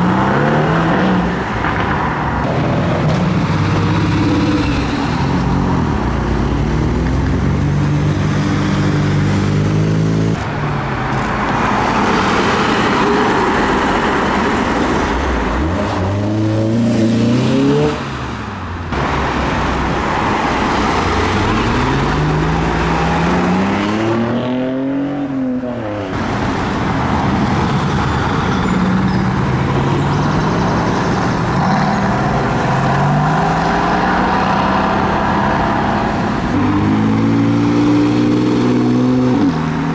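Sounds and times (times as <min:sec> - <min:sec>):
car engines revving and accelerating: 0:00.0 - 0:39.9.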